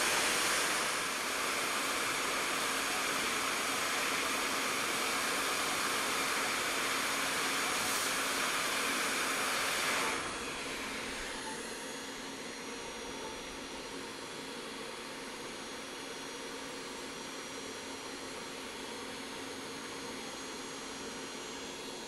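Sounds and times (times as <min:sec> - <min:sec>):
hot air blower hissing: 0:00.0 - 0:22.0.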